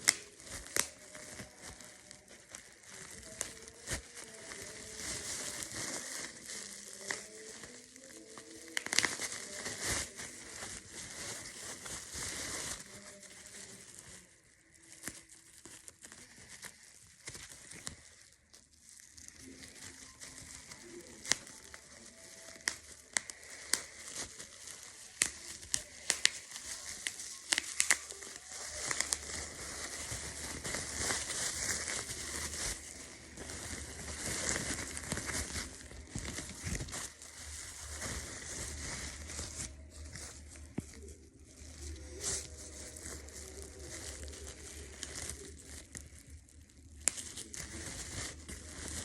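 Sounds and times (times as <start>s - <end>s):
crinkling and crackling: 0.0s - 49.0s.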